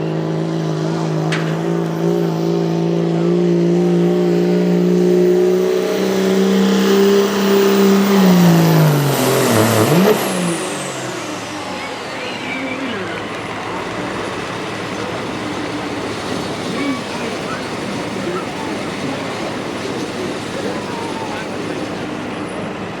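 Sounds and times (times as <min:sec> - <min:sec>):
pulling vehicle engine running flat out: 0:00.0 - 0:23.0
high whine: 0:01.0 - 0:23.0.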